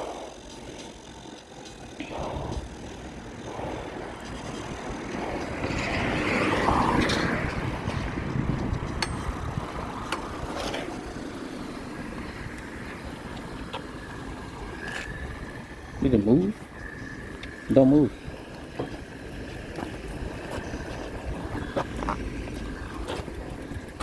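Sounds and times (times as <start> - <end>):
vehicle passing: 0.0 - 24.0
wind and road noise: 0.0 - 24.0.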